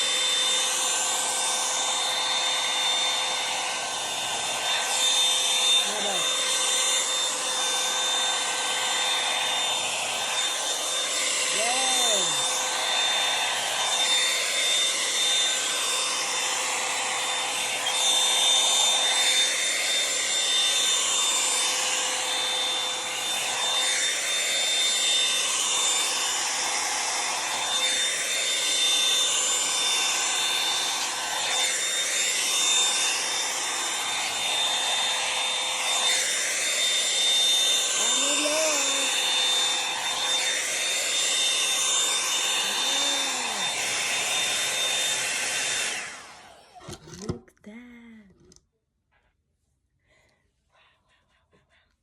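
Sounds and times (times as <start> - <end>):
hair dryer brush whine and air: 0.0 - 47.4.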